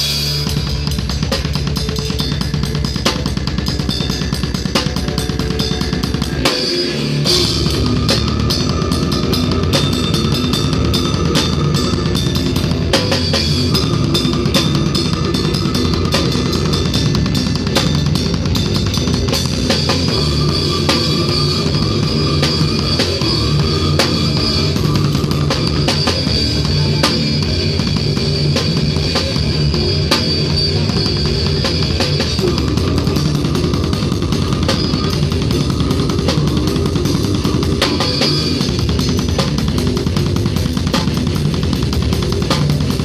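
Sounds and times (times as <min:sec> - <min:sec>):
metal band playing: 0:00.0 - 0:43.0
rapid drum hits and cymbals: 0:00.0 - 0:43.0.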